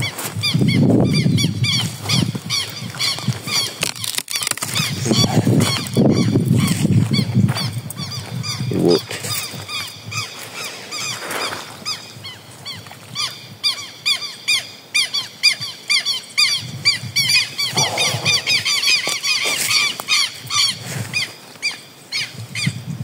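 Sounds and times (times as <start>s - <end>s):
birds squeaky calls: 0.0s - 22.8s.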